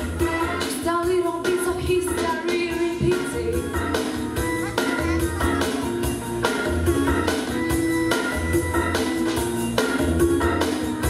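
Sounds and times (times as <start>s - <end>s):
instrumental pop backing track: 0.0s - 11.0s.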